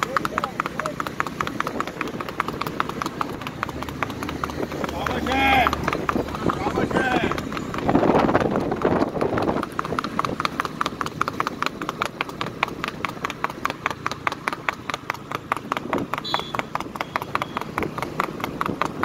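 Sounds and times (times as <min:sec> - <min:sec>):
horse hooves on paved road: 0:00.0 - 0:19.0.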